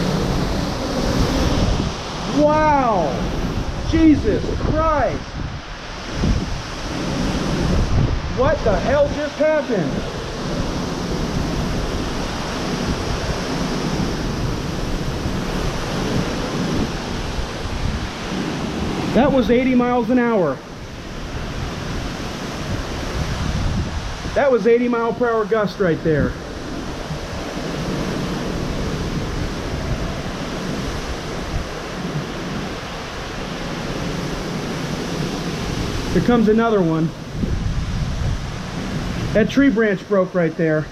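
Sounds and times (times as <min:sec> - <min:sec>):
wind buffeting microphone: 0:00.0 - 0:40.9
wind gust rushing: 0:00.0 - 0:40.9.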